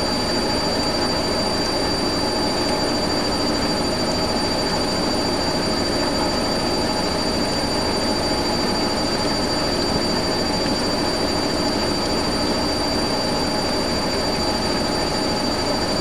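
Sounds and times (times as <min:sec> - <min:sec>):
high-pitched motor whine: 0:00.0 - 0:16.0.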